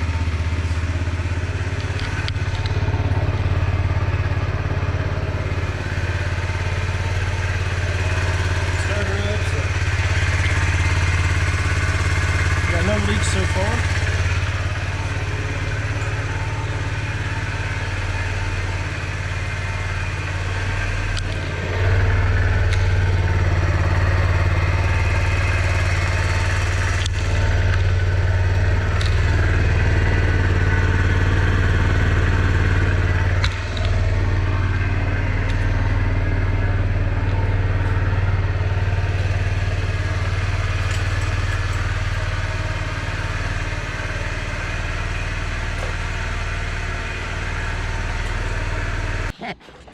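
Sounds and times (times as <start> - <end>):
motorcycle engine idling: 0.0 - 49.3.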